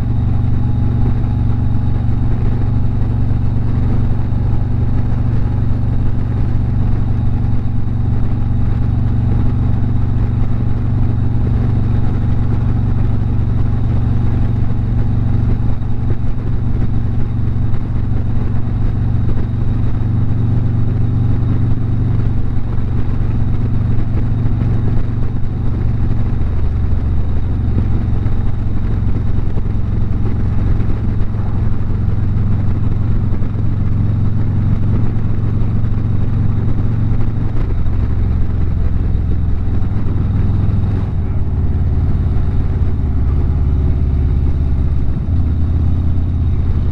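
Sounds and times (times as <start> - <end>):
motorcycle engine cruising: 0.0 - 46.9
road and wind noise: 0.0 - 46.9.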